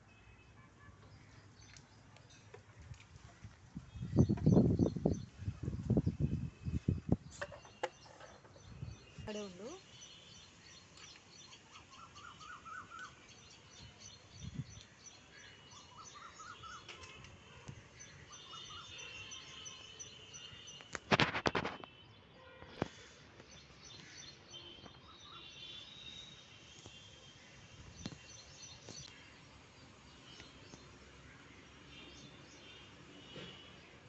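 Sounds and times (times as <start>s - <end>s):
small birds chirping: 1.1s - 22.1s, 22.8s - 34.0s.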